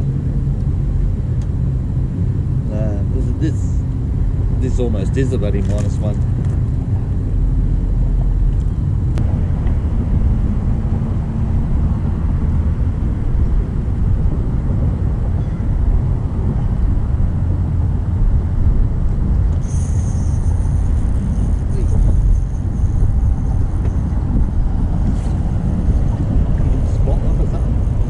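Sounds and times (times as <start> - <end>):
low outdoor background rumble: 0.0 - 28.0.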